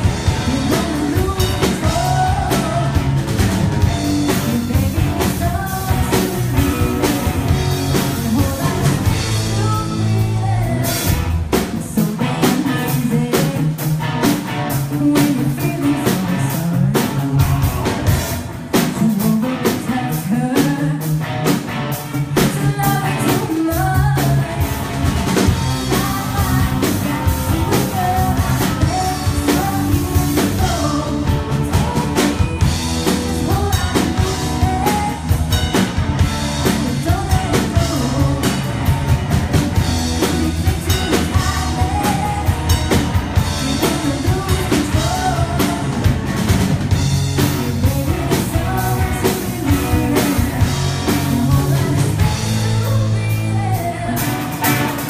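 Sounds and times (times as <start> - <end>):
drum kit: 0.0 - 55.0
electric guitar: 0.0 - 55.0
woman singing into a microphone: 0.2 - 3.1, 3.9 - 7.3, 7.9 - 14.0, 14.7 - 17.4, 18.8 - 21.2, 22.4 - 24.7, 25.5 - 35.6, 36.6 - 38.7, 40.1 - 46.1, 47.5 - 55.0.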